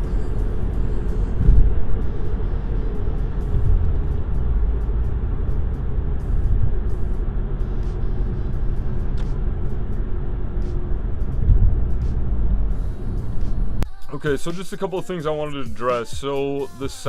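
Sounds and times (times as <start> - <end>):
car exhaust low drone: 0.0 - 14.4.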